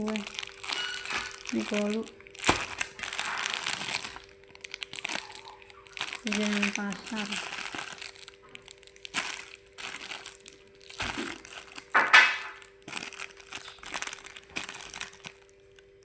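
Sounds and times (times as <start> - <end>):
crunching and chewing: 0.0 - 16.0
faint steady hum: 0.0 - 16.0.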